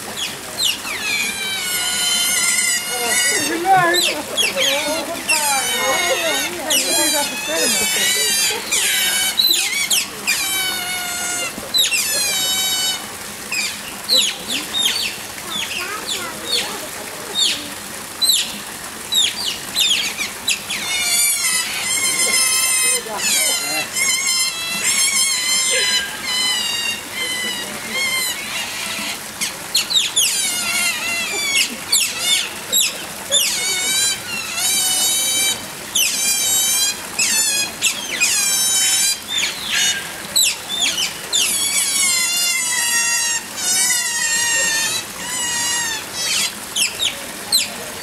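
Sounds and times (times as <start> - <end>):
otters chirping: 0.0 - 17.6, 19.1 - 47.8.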